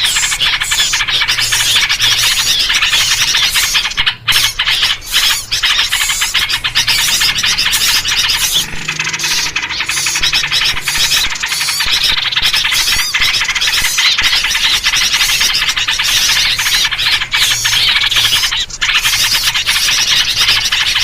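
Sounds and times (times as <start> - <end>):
bulbul calls: 0.0 - 21.0
songbird chorus chattering: 0.0 - 21.0.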